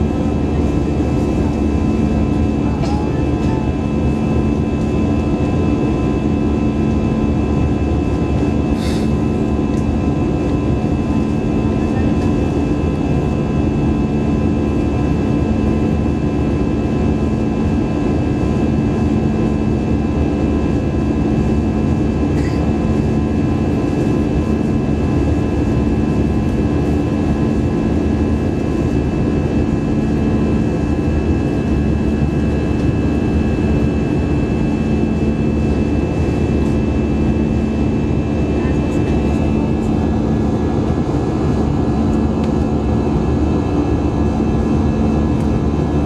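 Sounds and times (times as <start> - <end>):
jet engines running: 0.0 - 46.0.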